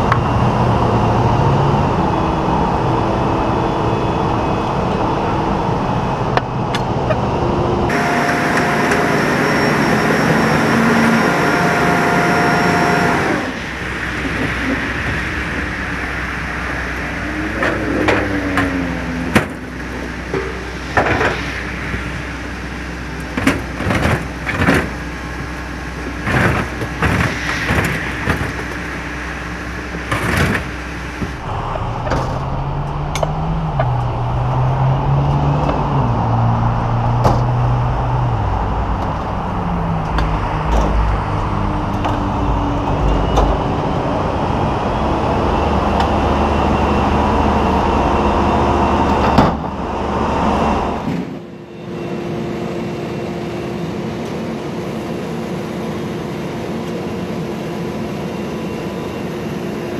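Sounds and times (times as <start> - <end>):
steady hum: 0.0 - 59.9
truck engine running under load: 0.0 - 59.9.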